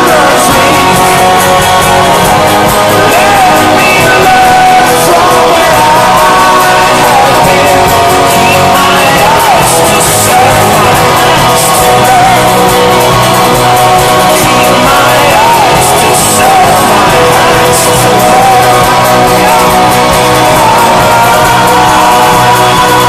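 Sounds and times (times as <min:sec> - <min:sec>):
electric guitar: 0:00.0 - 0:23.0
folk-rock band playing live: 0:00.0 - 0:23.0
man singing: 0:00.0 - 0:23.0
strummed acoustic guitar: 0:00.0 - 0:23.0.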